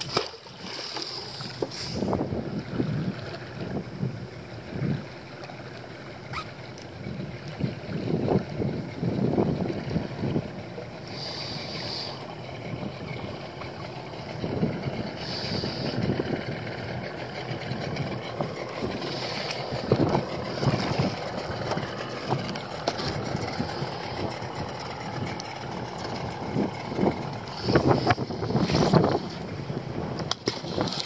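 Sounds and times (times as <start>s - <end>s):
wind buffeting microphone: 1.7s - 5.1s, 6.9s - 31.0s.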